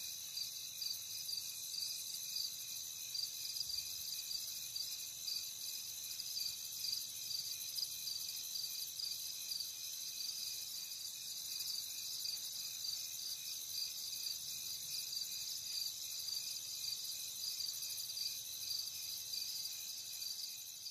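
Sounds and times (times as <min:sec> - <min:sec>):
insects chirping: 0:00.0 - 0:20.9.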